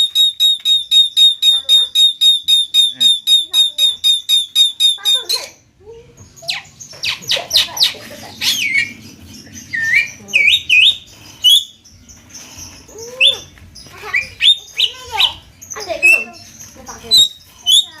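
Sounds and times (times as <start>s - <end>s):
myna calling: 0.0s - 5.7s, 6.4s - 11.9s, 12.6s - 18.0s.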